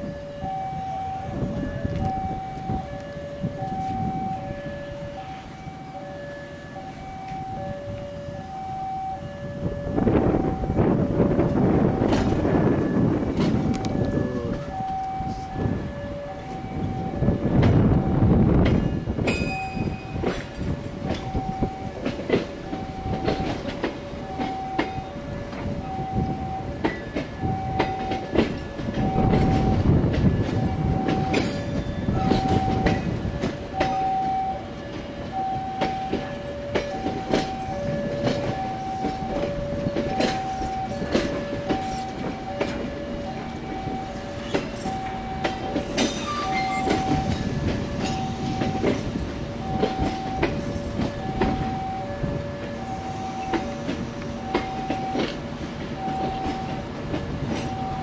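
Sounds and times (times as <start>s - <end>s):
train wheels rumbling and clicking: 0.0s - 58.0s
two-tone electronic alarm beeping: 0.0s - 58.0s.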